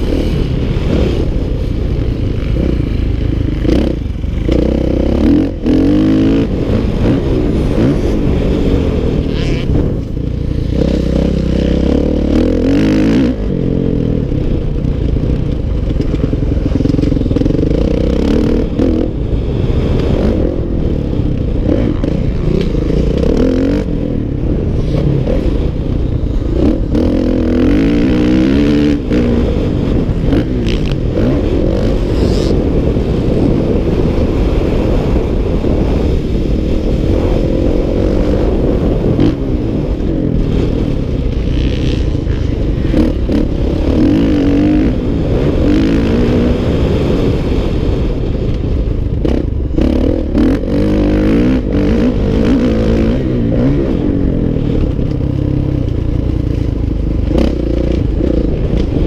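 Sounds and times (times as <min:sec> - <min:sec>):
dirt bike engine revving: 0:00.0 - 0:47.7, 0:49.2 - 0:59.0.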